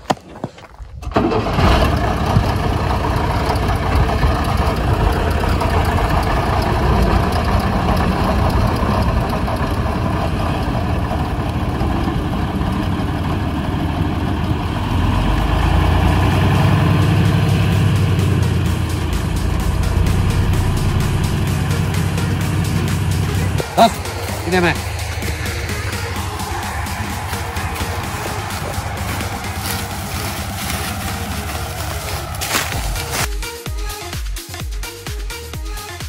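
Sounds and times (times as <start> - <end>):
diesel truck engine running: 0.6 - 36.0.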